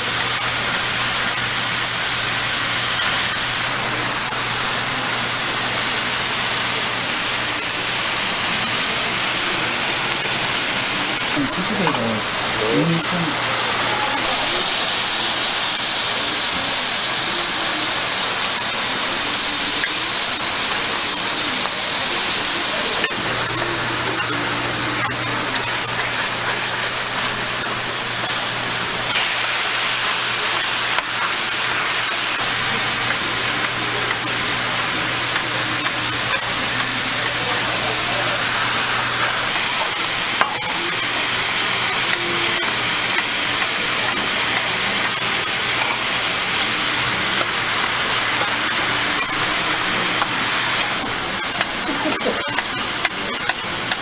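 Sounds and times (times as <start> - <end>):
meat sizzling on a griddle: 0.0 - 54.0.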